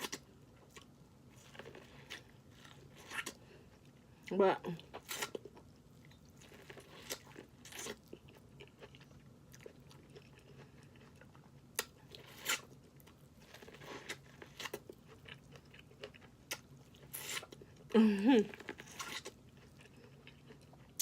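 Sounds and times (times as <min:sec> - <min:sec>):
chewing and biting: 0:00.0 - 0:04.2, 0:04.8 - 0:17.9, 0:18.5 - 0:21.0.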